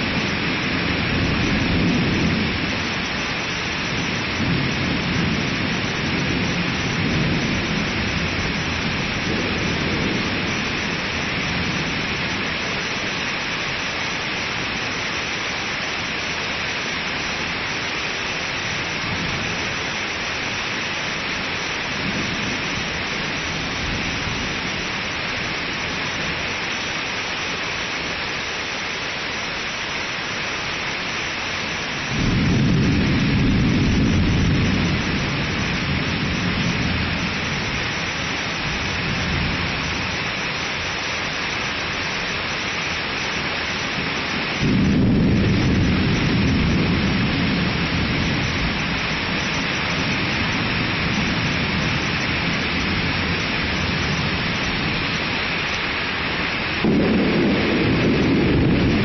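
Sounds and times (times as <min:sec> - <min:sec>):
thunder rumbling: 0:00.0 - 0:28.0, 0:31.3 - 0:59.0
steady hiss: 0:00.0 - 0:59.0.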